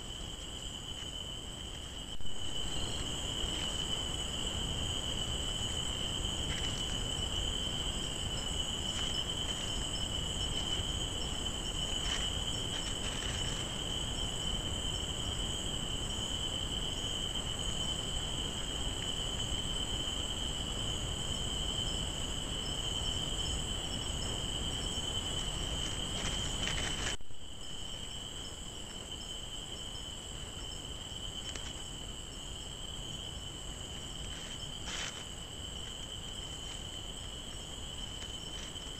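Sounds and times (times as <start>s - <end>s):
shrill insect trills: 0.0s - 38.9s.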